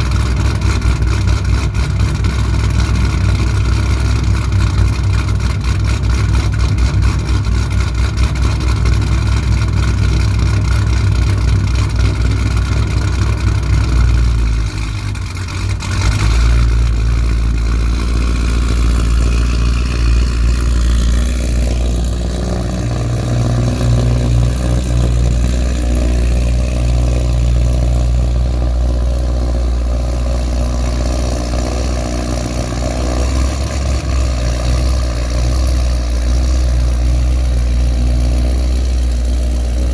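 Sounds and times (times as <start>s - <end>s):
car engine idling loudly: 0.0s - 39.9s.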